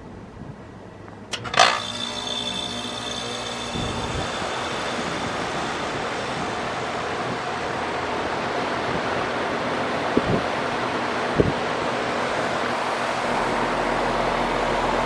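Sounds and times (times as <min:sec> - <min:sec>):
heat pump rushing hiss: 0:01.3 - 0:15.0.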